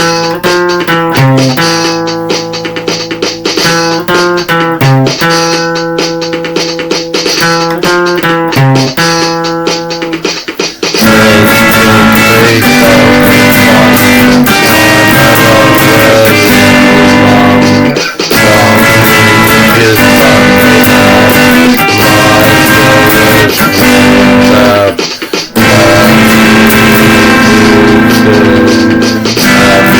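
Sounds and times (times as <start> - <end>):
loud instrumental rock music: 0.0 - 29.9.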